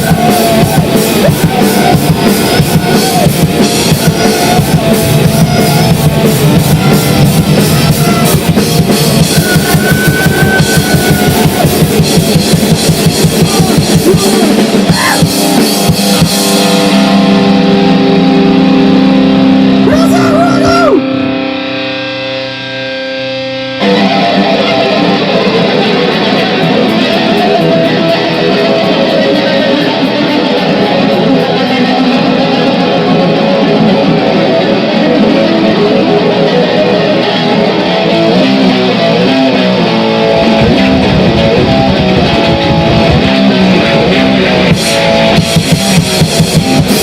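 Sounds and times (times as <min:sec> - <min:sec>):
distorted electric guitar: 0:00.0 - 0:47.0.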